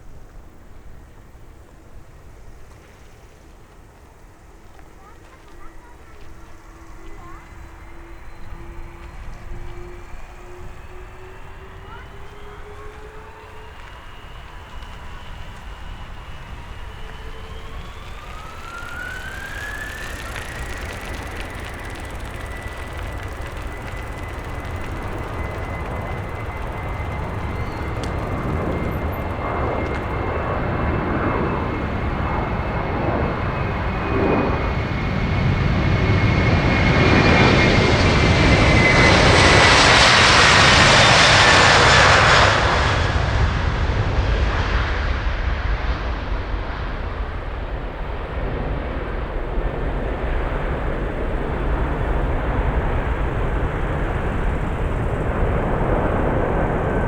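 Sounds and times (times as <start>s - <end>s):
jet airliner engines passing: 0.0s - 57.0s
jet engine whine: 0.0s - 57.0s.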